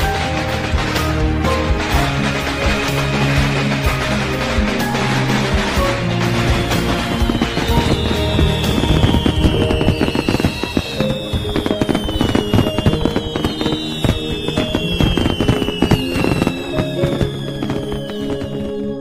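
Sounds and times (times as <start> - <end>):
background music: 0.0 - 19.0
falling firework whistles: 0.0 - 19.0
fireworks crackling and banging: 0.0 - 19.0.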